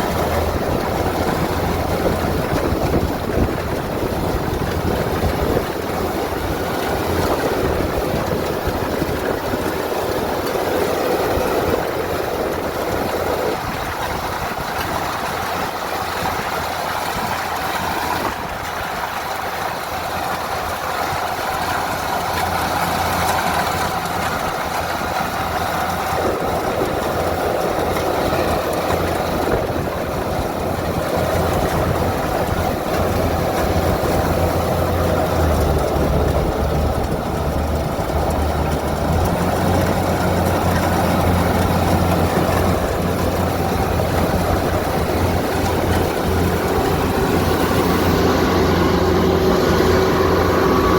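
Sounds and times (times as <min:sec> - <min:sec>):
combine harvester diesel engine: 0:00.0 - 0:50.9.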